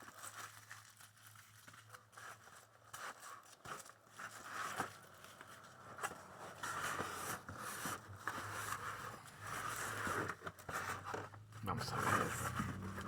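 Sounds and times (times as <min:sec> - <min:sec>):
small clicks and scrapes: 0:00.0 - 0:11.4
bubble wrap crinkling: 0:00.0 - 0:13.0.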